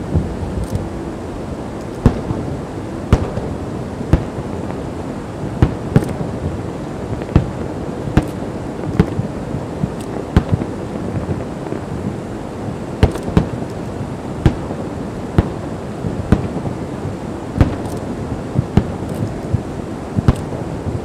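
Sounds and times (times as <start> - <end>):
noisy background: 0.0 - 21.0
fireworks banging: 1.7 - 12.1, 13.0 - 21.0.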